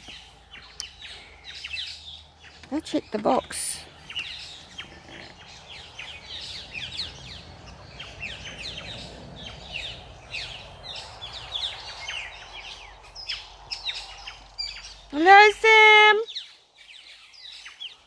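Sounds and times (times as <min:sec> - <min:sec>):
flock of birds chirping: 0:00.0 - 0:18.0.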